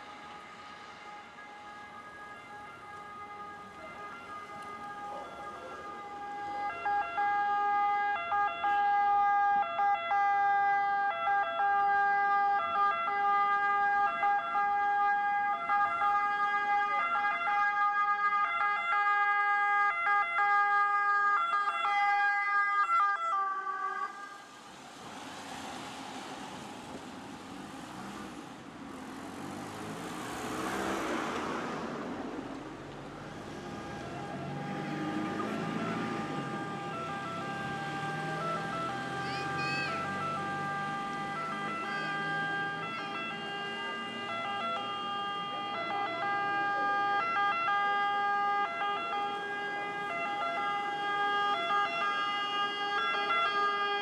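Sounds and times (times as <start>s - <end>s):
siren steady tone: 0.0s - 24.4s, 33.5s - 54.0s
passing vehicle rush: 0.0s - 54.0s.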